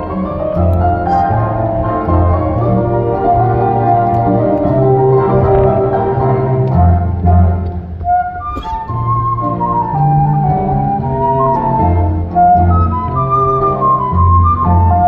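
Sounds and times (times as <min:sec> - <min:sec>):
orchestra playing: 0:00.0 - 0:15.0.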